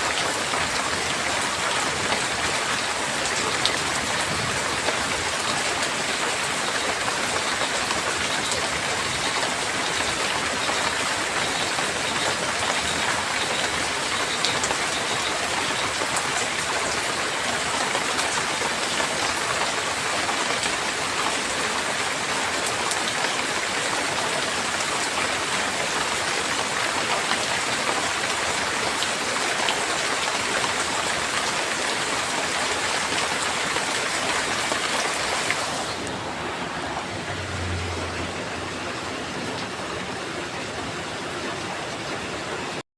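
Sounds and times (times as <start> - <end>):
heavy rain falling: 0.0 - 42.8.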